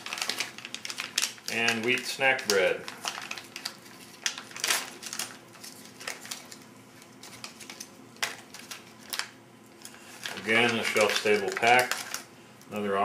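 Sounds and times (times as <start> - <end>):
plastic pouch rustling: 0.0 - 12.3
plastic pouch crinkling: 0.0 - 12.8.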